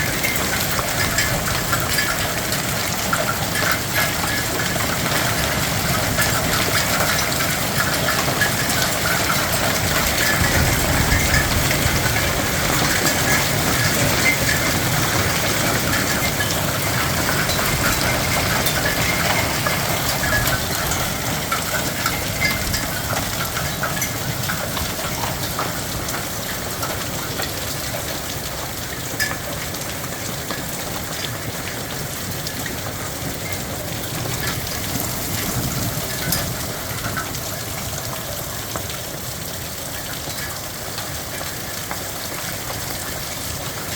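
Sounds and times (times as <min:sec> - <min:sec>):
hailstones ticking: 0:00.0 - 0:43.9
rain pelting down: 0:00.0 - 0:43.9.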